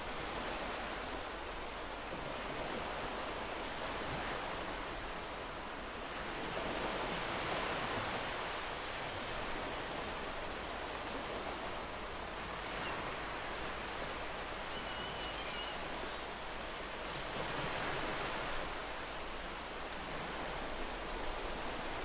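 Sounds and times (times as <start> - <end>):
small waves breaking on beach: 0.0 - 22.0.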